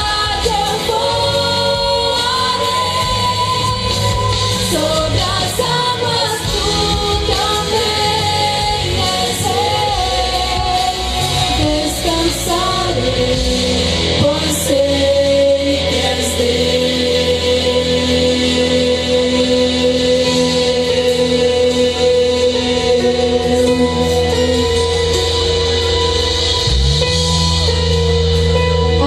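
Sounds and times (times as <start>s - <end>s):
woman singing gospel song: 0.0s - 25.1s
instrumental backing with bass: 0.0s - 29.0s.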